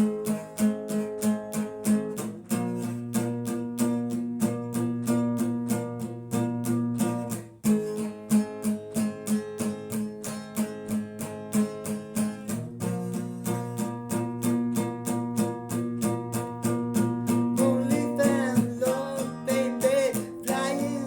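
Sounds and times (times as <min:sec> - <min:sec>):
guitar strumming chords: 0:00.1 - 0:21.0.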